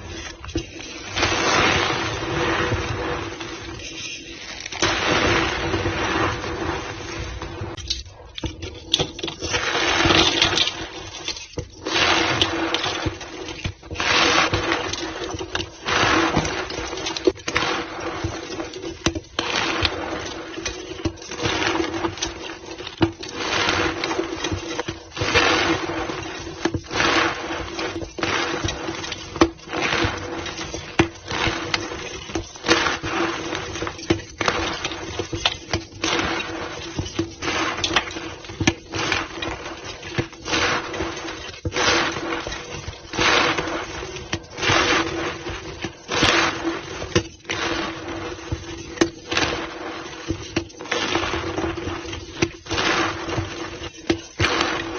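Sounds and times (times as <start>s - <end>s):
chalk blocks being crushed: 0.0s - 54.9s.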